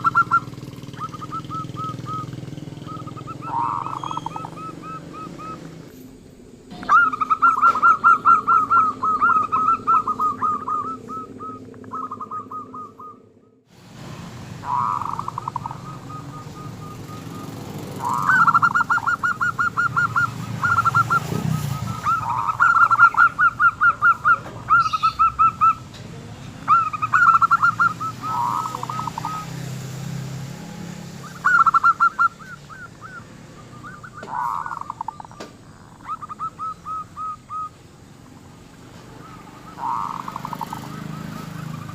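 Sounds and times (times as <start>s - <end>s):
dove cooing: 0.0s - 13.6s, 14.6s - 30.3s, 30.9s - 41.9s.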